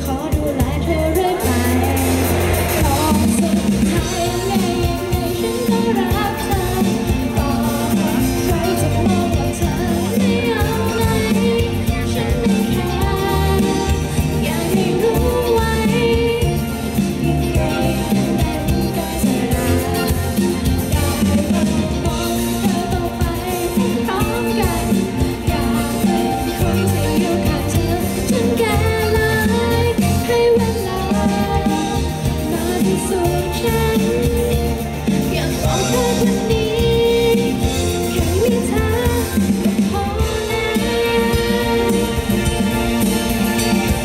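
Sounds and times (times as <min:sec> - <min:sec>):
backing band playing: 0:00.0 - 0:44.0
drums and bass: 0:00.0 - 0:44.0
woman singing with vibrato: 0:00.0 - 0:44.0.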